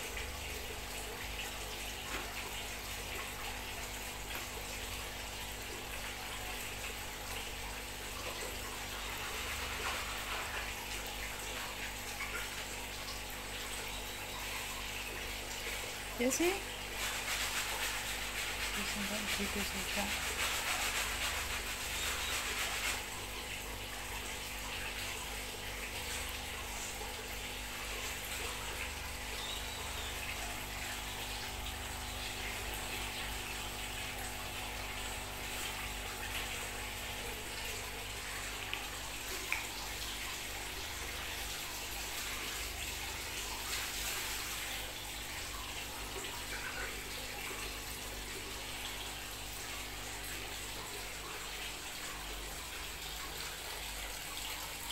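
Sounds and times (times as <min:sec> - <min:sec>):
running water rushing: 0:00.0 - 0:54.9.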